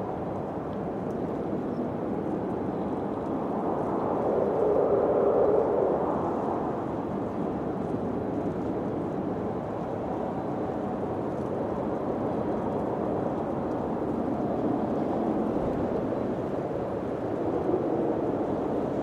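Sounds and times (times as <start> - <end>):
low rushing wind: 0.0 - 19.0.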